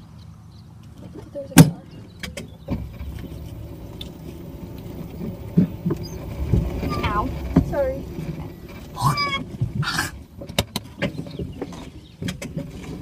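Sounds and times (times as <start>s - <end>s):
golf cart rumbling: 0.9s - 13.0s.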